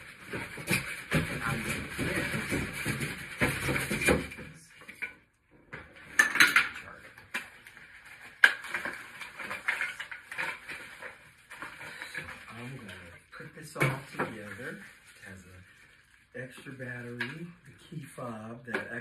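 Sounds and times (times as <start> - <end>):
clatter and rustle of handling: 0.0 - 5.2, 5.9 - 13.2, 13.8 - 17.8.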